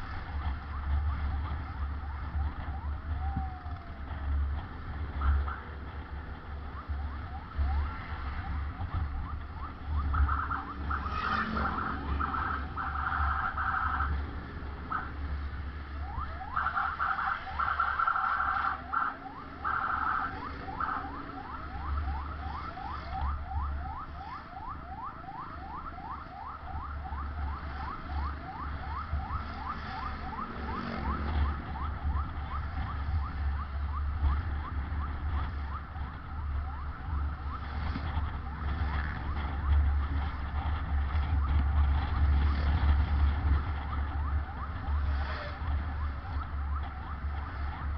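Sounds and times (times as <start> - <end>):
ambulance siren: 0.0 - 47.9.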